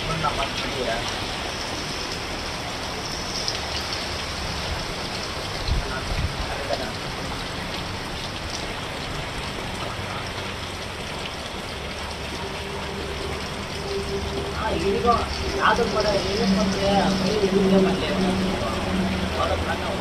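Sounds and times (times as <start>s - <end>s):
rain pattering on ground: 0.0s - 20.0s.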